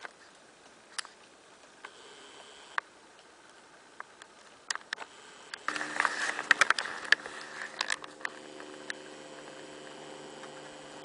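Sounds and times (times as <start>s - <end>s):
steady low hum: 0.2s - 11.0s.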